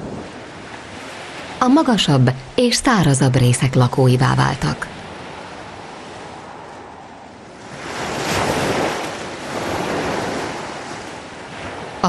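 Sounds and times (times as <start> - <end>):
ocean surf washing ashore: 0.0 - 12.0.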